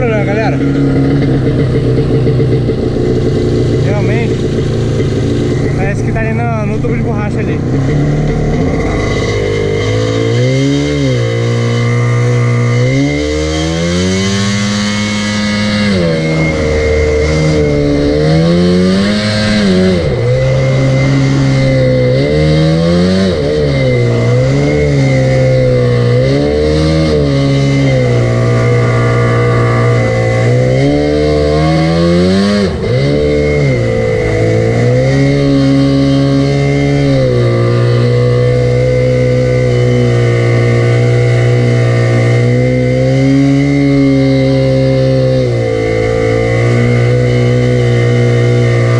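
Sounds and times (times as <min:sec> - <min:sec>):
steady high whine: 0:00.0 - 0:42.5
jet ski engine revving: 0:00.0 - 0:48.9.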